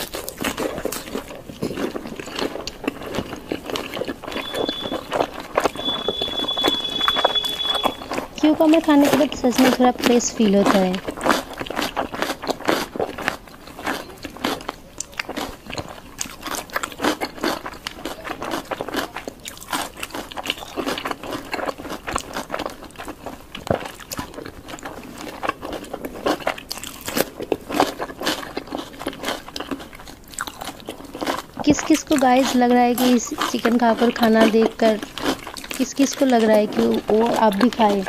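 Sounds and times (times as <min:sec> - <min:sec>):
crunchy eating and chewing: 0:00.0 - 0:38.0.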